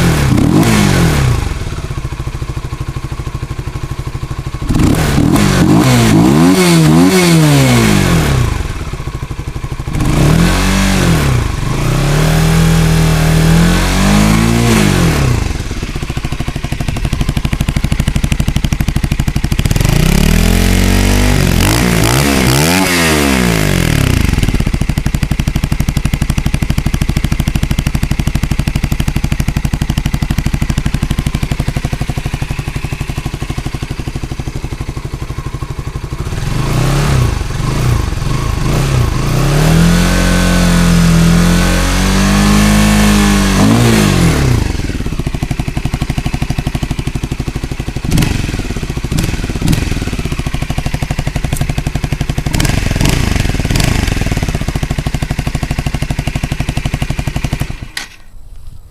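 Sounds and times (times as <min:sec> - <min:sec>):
motorcycle engine idling and revving: 0:00.0 - 0:58.9.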